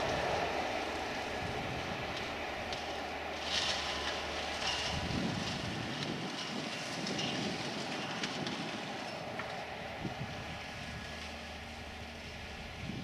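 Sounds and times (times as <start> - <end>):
steam train rumbling: 0.0 - 13.0
wheels clattering on rails: 0.0 - 13.0.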